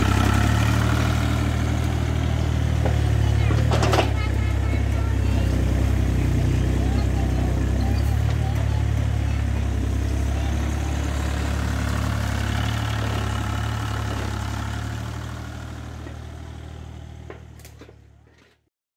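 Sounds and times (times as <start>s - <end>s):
diesel engine humming: 0.0s - 18.4s.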